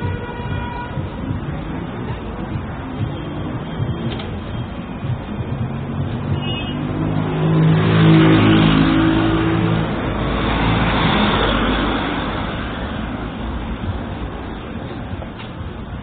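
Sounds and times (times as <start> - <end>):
road noise rush: 0.0 - 16.0.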